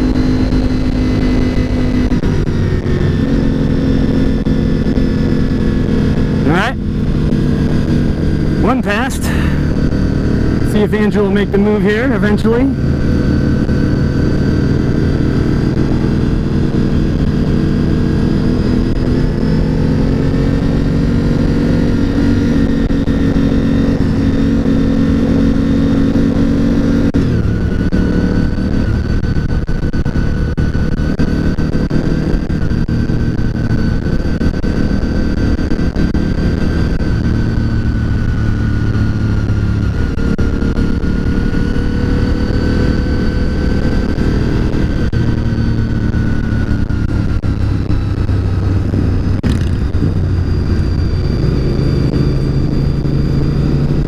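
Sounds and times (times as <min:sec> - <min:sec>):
wind noise: 0:00.0 - 0:10.7, 0:12.3 - 0:54.0
motorcycle engine running: 0:00.0 - 0:54.0.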